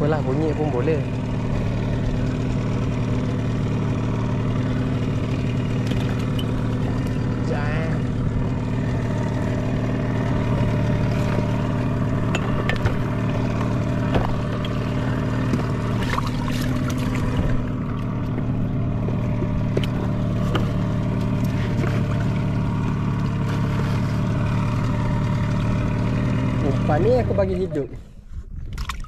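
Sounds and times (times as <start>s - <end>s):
outboard motor idling: 0.0s - 29.0s.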